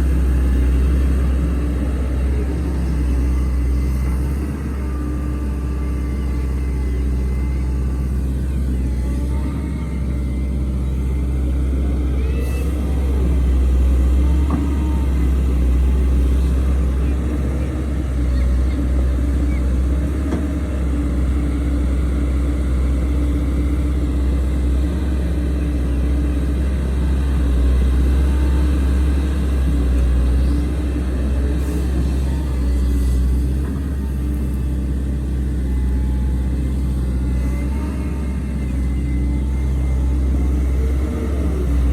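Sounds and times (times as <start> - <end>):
heavy diesel engine droning: 0.0 - 41.9.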